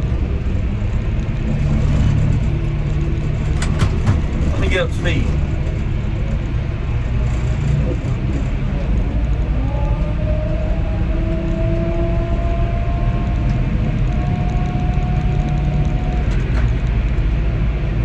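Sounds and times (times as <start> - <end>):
tractor engine drone from cab: 0.0 - 18.0.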